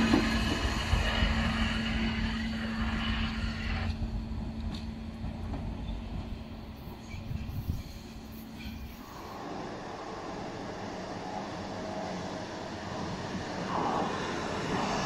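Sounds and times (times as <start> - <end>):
steady low hum: 0.0 - 15.0
train hiss: 0.0 - 15.0
train running on tracks: 0.0 - 15.0.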